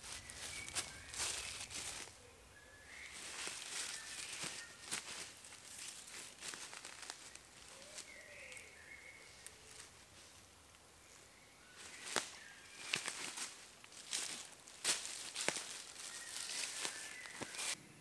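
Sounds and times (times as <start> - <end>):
feet shifting on dry leaves: 0.0 - 10.5, 11.6 - 17.8
faint rustling: 0.0 - 17.8
faint chirps: 0.0 - 18.0.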